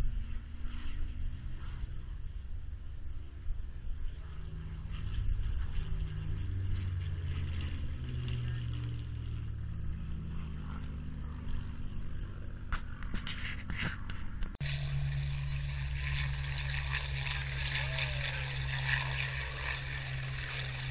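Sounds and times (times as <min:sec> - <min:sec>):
propeller aircraft droning overhead: 0:00.0 - 0:20.9.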